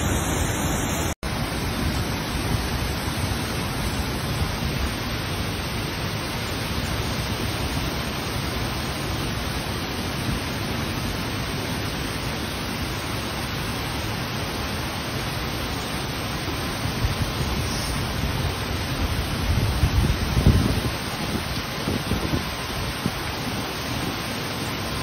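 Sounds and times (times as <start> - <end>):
heavy rain: 0.0 - 25.0
hurricane wind: 0.0 - 25.0.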